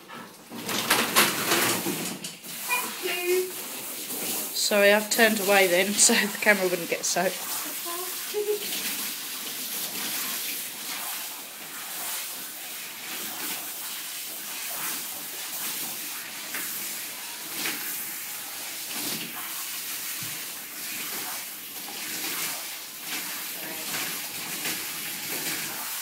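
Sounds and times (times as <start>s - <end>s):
shower head spraying water: 2.4s - 26.0s.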